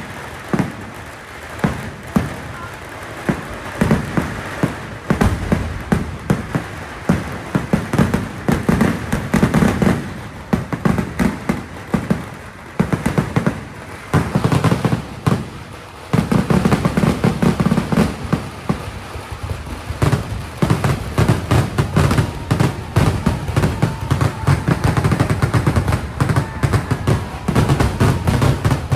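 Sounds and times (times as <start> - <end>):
firecrackers banging: 0.0 - 28.9.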